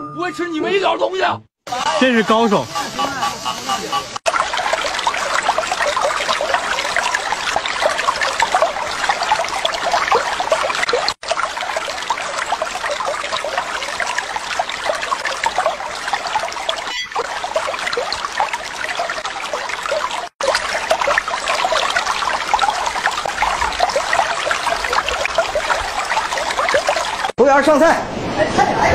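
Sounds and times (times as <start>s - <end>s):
trickling running water: 1.7s - 27.4s.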